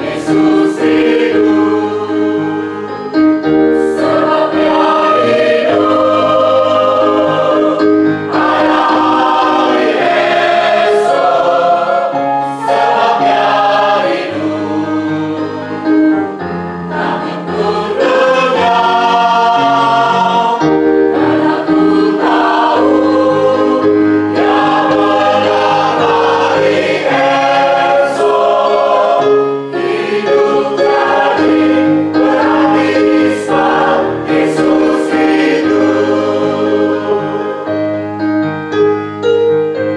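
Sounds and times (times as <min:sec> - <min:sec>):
church choir singing a hymn: 0:00.0 - 0:38.5.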